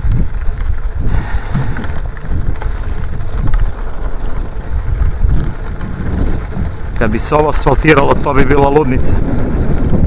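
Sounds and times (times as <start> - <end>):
bicycle rattling: 0.0 - 10.0
bicycle tyres crunching on gravel: 0.0 - 10.0
wind rumbling on microphone: 0.0 - 10.0.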